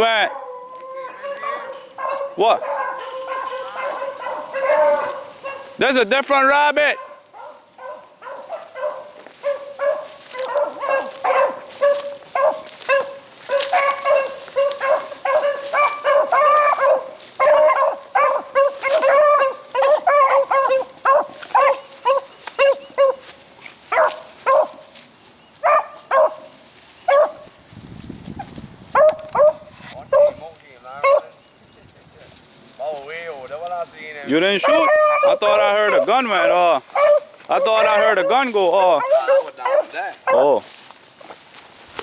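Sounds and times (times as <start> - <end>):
hounds baying: 0.0 - 6.1, 6.8 - 27.6, 28.9 - 31.5, 33.6 - 40.9.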